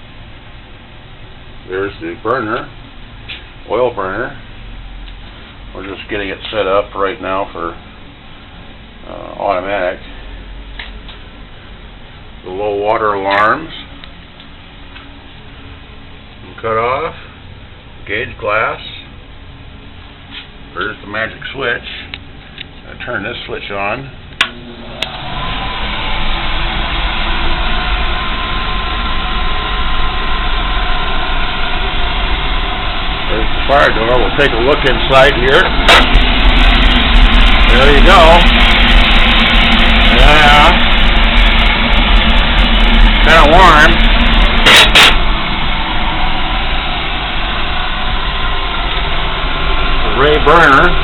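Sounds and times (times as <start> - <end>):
oil burner motor and blower humming: 0.0 - 51.0.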